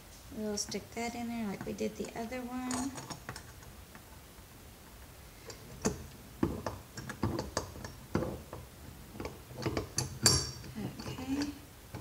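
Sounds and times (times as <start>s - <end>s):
clicks and light metal knocks: 0.0s - 4.2s, 5.4s - 12.0s.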